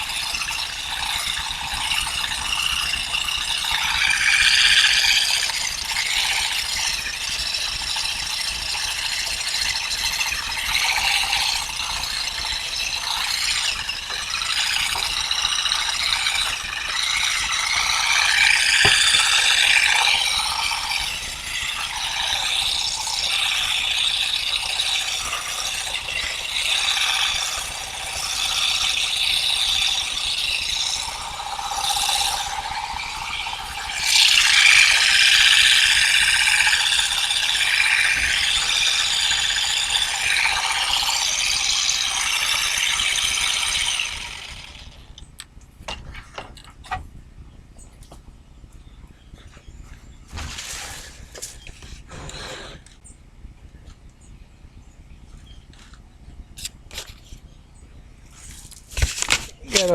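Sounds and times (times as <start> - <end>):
mechanical clattering and ratcheting: 0.0 - 47.1, 58.3 - 59.9.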